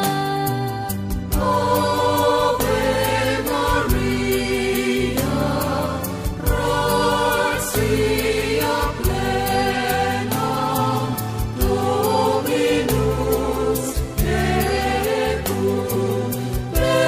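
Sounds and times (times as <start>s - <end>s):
choir singing a slow hymn: 1.3s - 17.0s.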